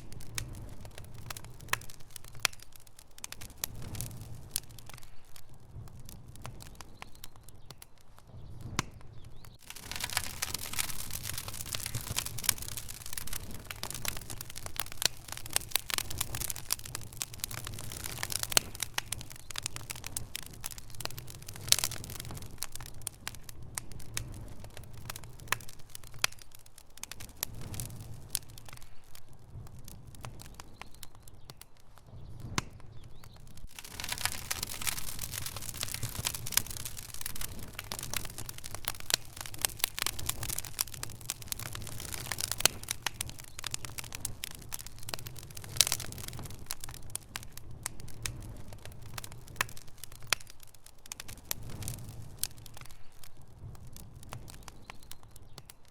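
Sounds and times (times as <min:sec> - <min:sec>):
fire crackling: 0:00.0 - 0:55.9.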